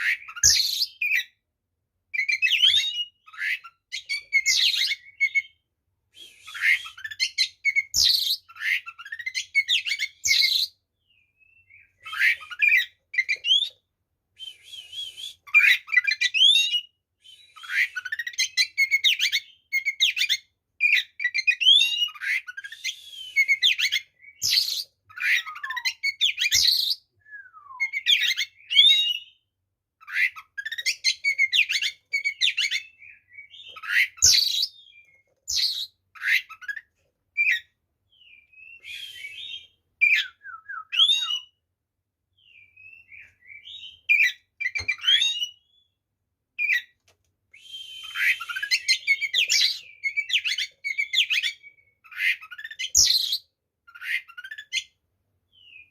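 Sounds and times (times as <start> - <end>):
magpie-robin singing: 0.0 - 1.4, 2.1 - 5.7, 6.4 - 13.8, 14.8 - 41.6, 42.4 - 46.0, 46.6 - 47.0, 47.9 - 55.9.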